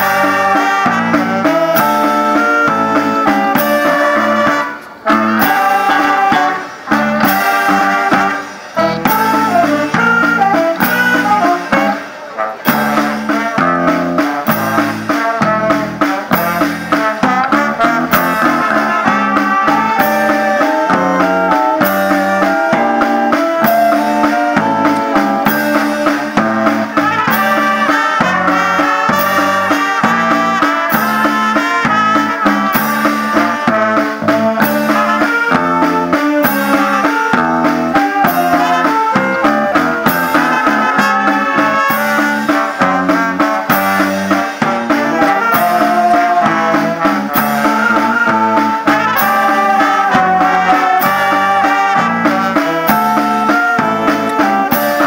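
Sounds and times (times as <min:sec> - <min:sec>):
brass band playing lively tune: 0:00.0 - 0:55.0
drum beat: 0:00.0 - 0:55.0.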